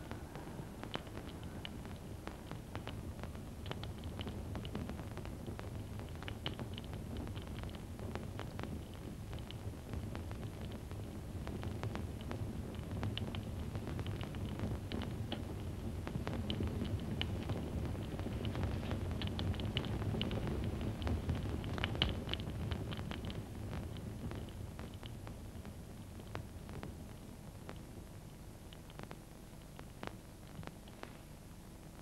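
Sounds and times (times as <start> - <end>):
fire crackling and popping: 0.0 - 32.0
low steady fire noise: 0.0 - 32.0.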